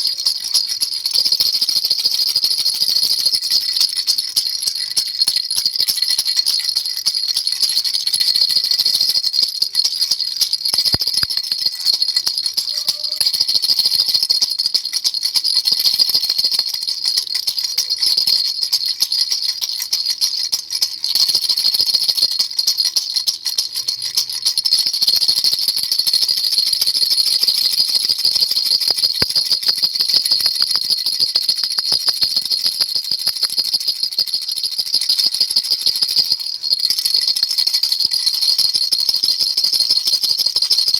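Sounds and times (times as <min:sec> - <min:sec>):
baby rattle jingling: 0:00.0 - 0:40.9.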